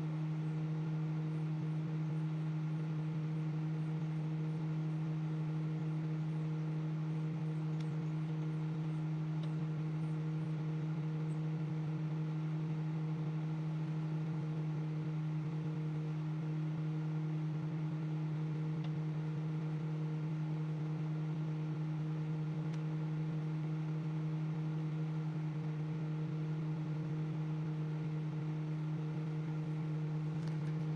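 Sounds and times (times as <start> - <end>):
microwave oven humming: 0.0 - 30.9.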